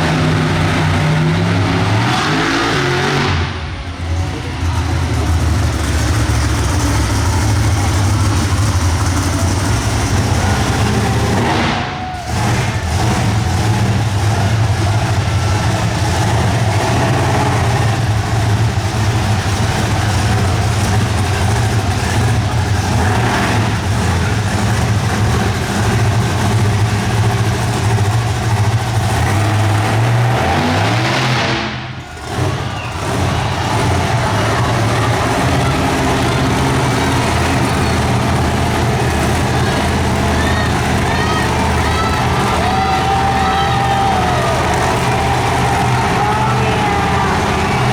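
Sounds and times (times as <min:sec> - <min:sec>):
monster truck engine revving: 0:00.0 - 0:47.9.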